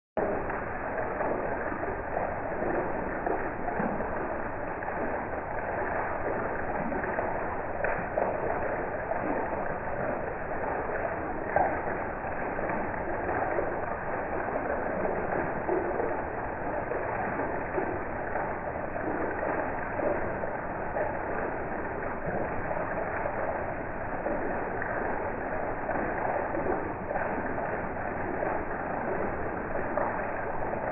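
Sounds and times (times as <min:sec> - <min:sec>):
heavy rain falling: 0:00.2 - 0:30.9
water pouring off roof splashing: 0:00.2 - 0:30.9.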